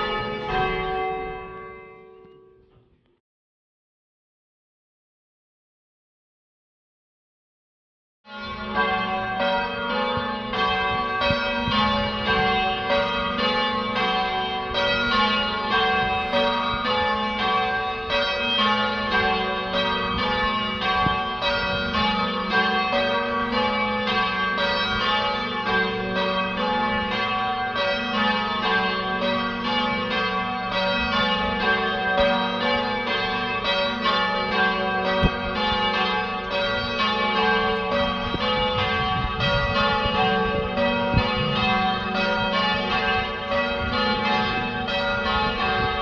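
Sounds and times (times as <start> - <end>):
church bells change ringing: 0.0 - 2.7, 8.3 - 46.0.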